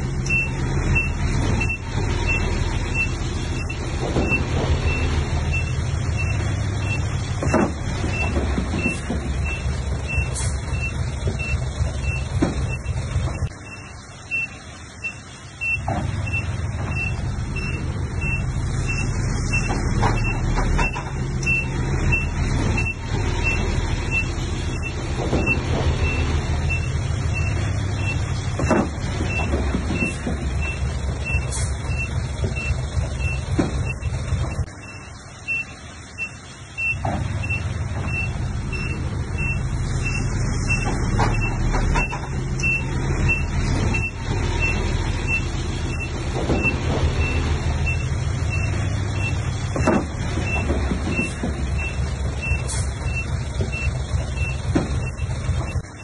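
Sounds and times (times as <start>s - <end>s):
diesel machinery engine running: 0.0s - 56.0s
reversing alarm beeping: 0.3s - 56.0s.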